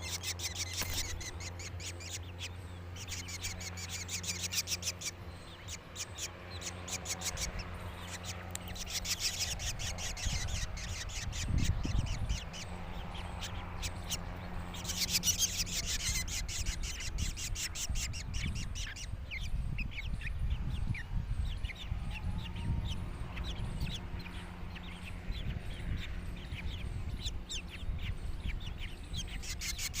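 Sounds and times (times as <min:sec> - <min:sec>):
birds chirping harshly: 0:00.0 - 0:30.0
steady low hum: 0:00.0 - 0:30.0.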